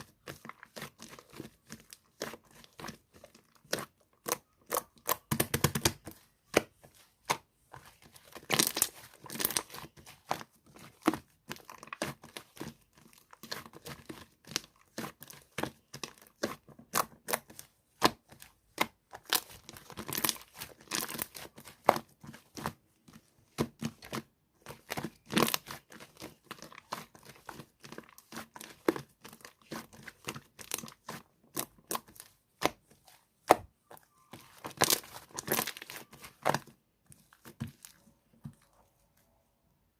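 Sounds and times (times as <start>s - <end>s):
slime squished by hand: 0.2s - 22.8s, 23.5s - 38.0s.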